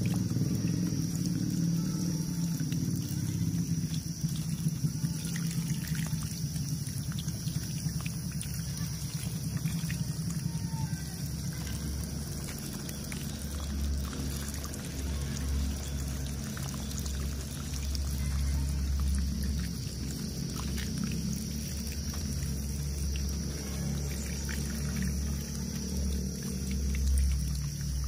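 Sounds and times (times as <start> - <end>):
water pouring and splashing on plastic: 0.0 - 28.0
water trickling: 0.0 - 28.0.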